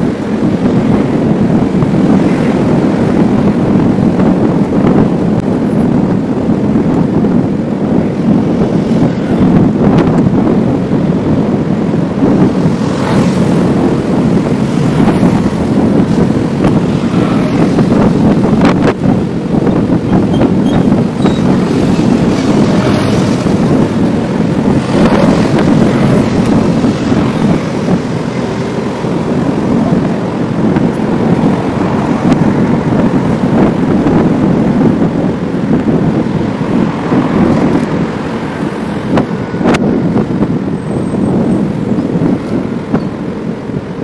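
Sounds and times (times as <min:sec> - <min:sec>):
city traffic: 0:00.0 - 0:44.0
wind rush on microphone: 0:00.0 - 0:44.0.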